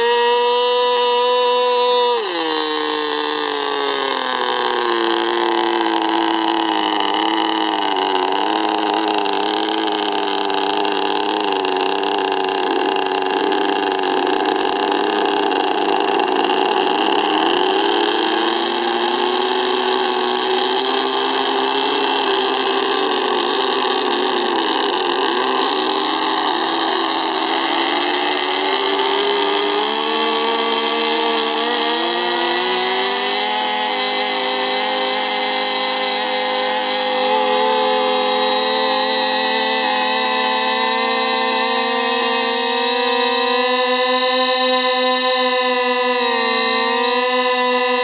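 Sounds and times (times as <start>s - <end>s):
model aircraft propeller motors buzzing: 0.0s - 48.0s.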